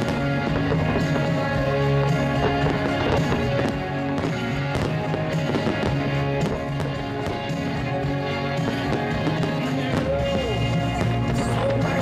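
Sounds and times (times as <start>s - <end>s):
fireworks cracking: 0.0s - 12.0s
music with chords and a beat: 0.0s - 12.0s.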